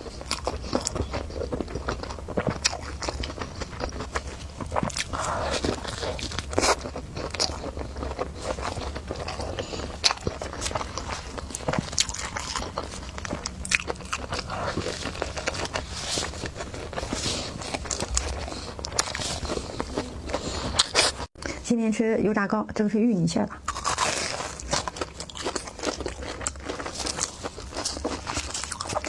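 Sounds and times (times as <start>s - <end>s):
person chewing and biting food: 0.0s - 21.5s, 23.6s - 29.0s.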